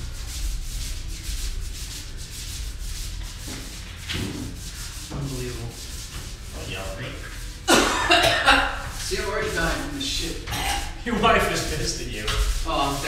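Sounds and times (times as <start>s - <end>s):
paint roller rubbing on wall: 0.0s - 13.0s.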